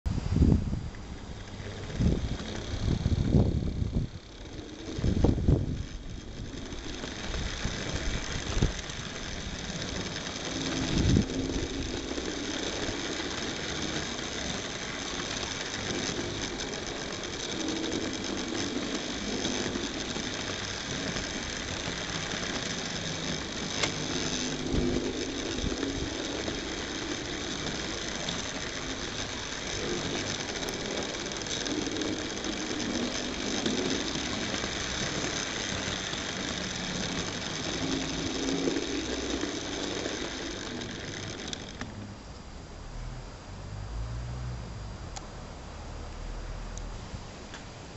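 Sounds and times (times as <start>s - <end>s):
sharp clicks: 0.9s - 42.0s
model train motor whirring: 0.9s - 43.2s.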